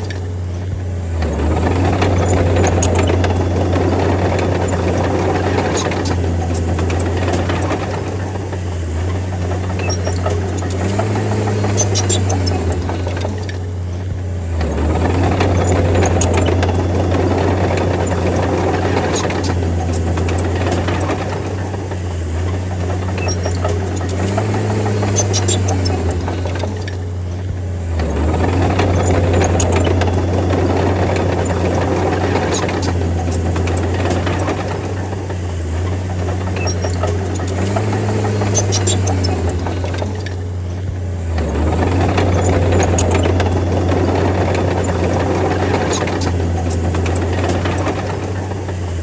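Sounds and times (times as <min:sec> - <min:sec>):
sharp metallic clicks: 0:00.0 - 0:48.8
bulldozer diesel engine running hard: 0:00.0 - 0:49.0.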